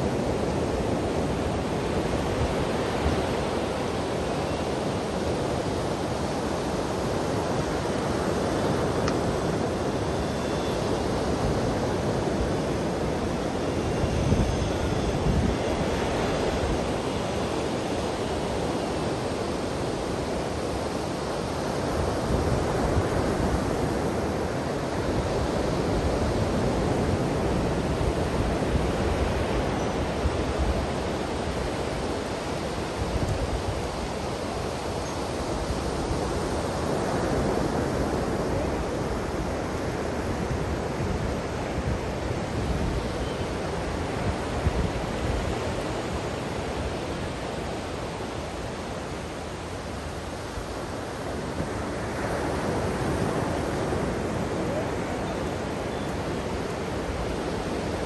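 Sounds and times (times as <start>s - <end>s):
surf breaking on a beach: 0.0s - 58.0s.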